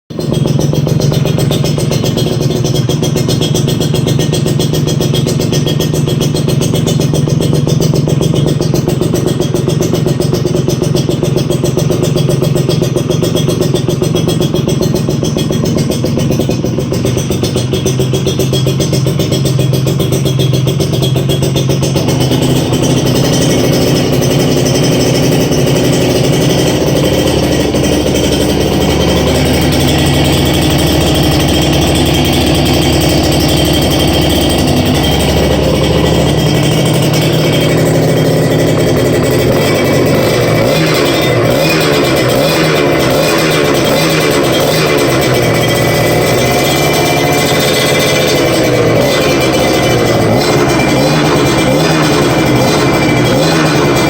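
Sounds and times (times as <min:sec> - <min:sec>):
two-stroke motorcycle engine running: 0:00.0 - 0:54.0.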